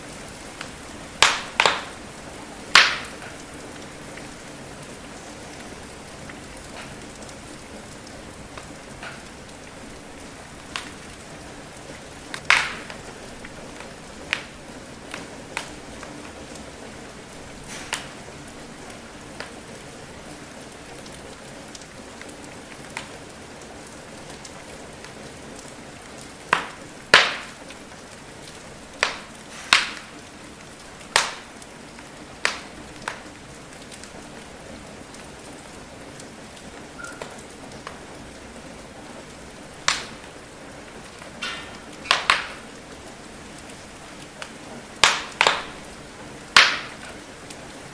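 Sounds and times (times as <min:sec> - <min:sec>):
rain pattering: 0:00.0 - 0:47.9
wood fire crackling: 0:00.0 - 0:47.9.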